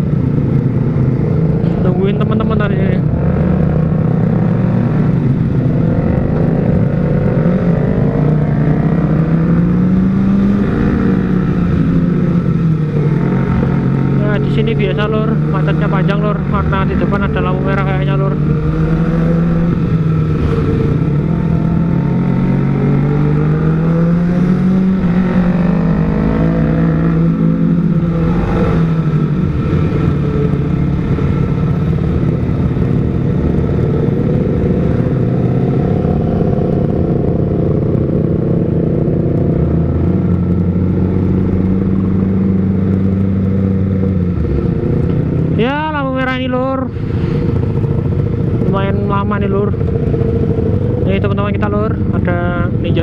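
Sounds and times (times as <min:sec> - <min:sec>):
motorcycle engine at low revs: 0:00.0 - 0:53.0.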